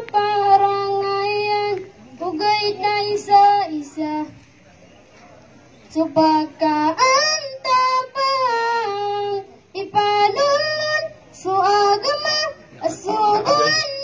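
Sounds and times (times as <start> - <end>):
boy singing unaccompanied: 0.0 - 4.4, 5.9 - 14.0.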